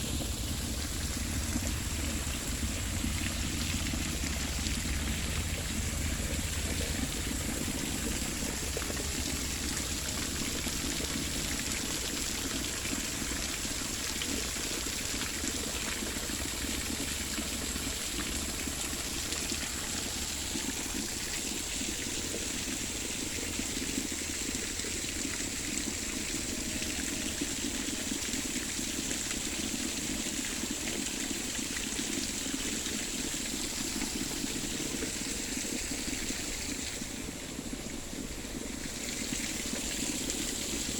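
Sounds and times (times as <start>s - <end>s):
running water trickling: 0.0s - 40.9s.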